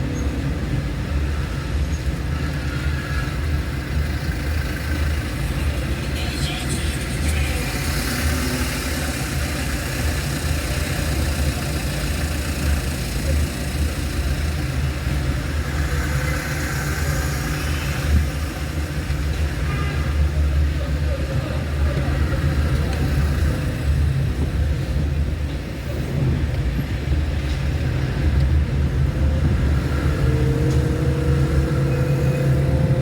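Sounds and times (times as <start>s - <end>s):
car engine rumble: 0.0s - 33.0s
tyres hissing on road: 0.1s - 33.0s.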